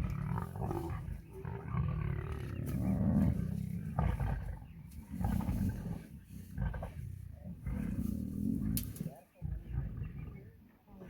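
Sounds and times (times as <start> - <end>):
lions growling: 0.0 - 11.0.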